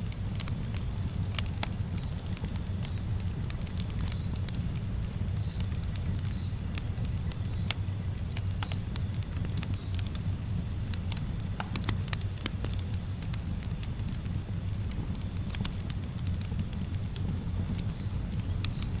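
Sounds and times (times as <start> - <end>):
campfire crackling and popping: 0.0 - 19.0
fire low rumble: 0.0 - 19.0.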